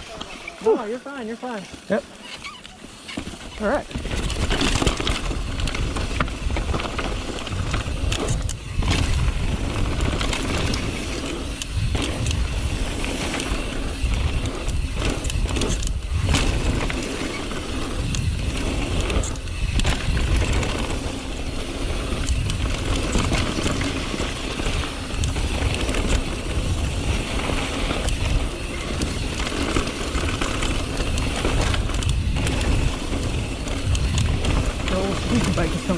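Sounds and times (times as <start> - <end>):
bike chain and frame rattling: 0.0 - 35.9
bike tyres rolling over dirt: 0.0 - 35.9
wind rumbling on microphone: 3.4 - 35.9.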